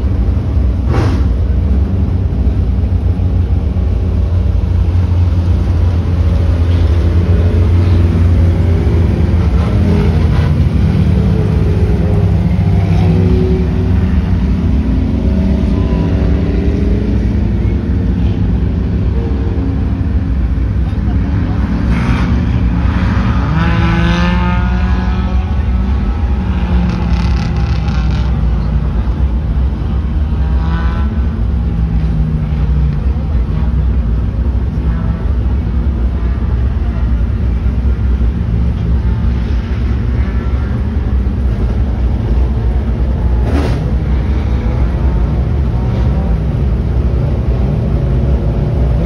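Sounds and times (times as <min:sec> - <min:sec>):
race car engines revving: 0:00.0 - 0:49.0.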